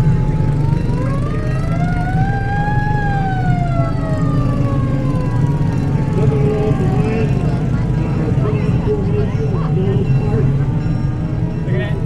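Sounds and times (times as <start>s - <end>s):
siren wailing: 0.0s - 11.6s.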